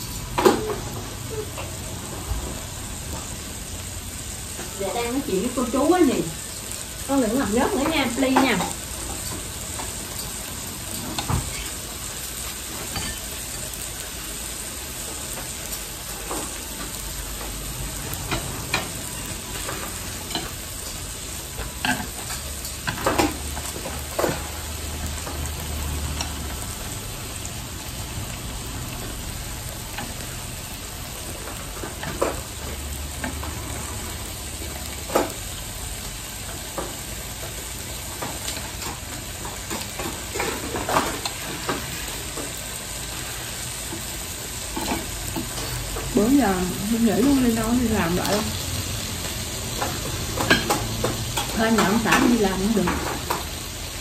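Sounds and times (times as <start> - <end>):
food sizzling on a grill plate: 0.0 - 54.0.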